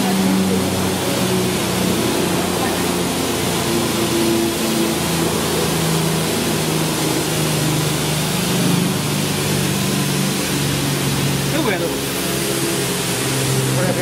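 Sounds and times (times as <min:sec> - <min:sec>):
cyclone blower rushing: 0:00.0 - 0:14.0
hammer mill crusher drone: 0:00.0 - 0:14.0.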